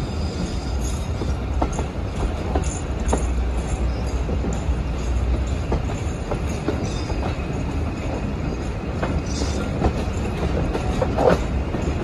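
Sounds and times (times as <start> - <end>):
train rumbling: 0.0 - 12.0
wheels clicking over rail joints: 0.8 - 12.0.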